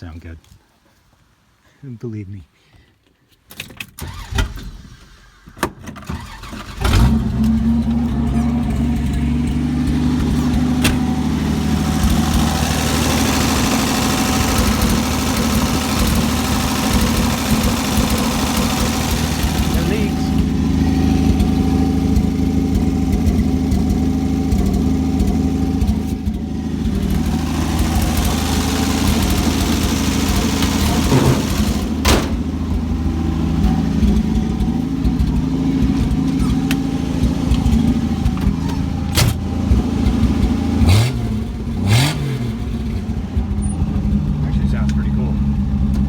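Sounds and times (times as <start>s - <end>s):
car engine idling and revving: 4.0s - 46.0s.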